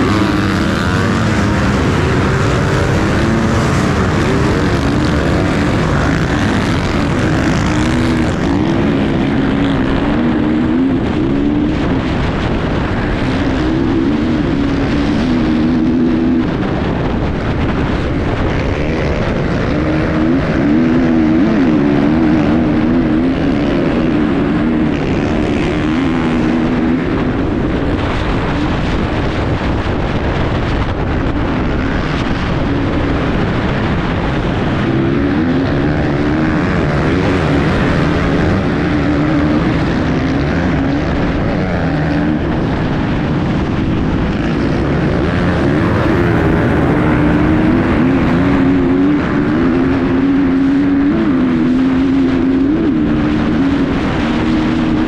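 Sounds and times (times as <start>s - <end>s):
motorcycle engine revving: 0.0s - 55.0s
steady low rumble: 0.0s - 55.0s.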